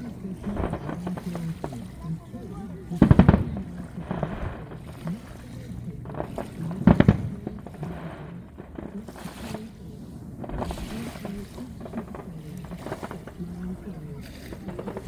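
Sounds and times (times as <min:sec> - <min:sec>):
fireworks bangs: 0:00.0 - 0:15.0
low steady background: 0:00.0 - 0:15.0.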